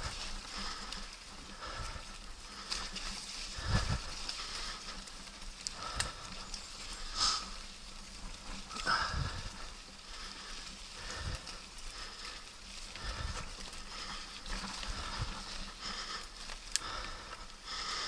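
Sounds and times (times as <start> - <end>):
mountain bike rattling on rocky trail: 0.0 - 18.0.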